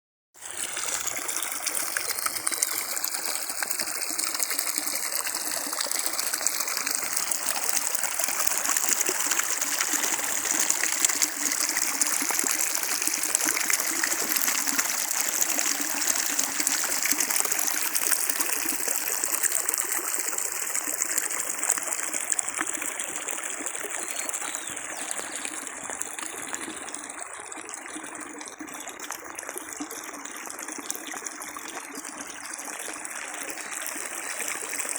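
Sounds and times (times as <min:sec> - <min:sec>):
flowing water rushing: 0:00.4 - 0:34.9.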